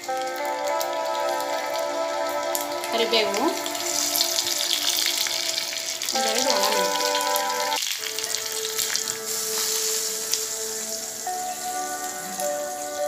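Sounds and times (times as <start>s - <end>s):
background music: 0.0s - 13.0s
hot oil sizzling: 0.0s - 13.0s.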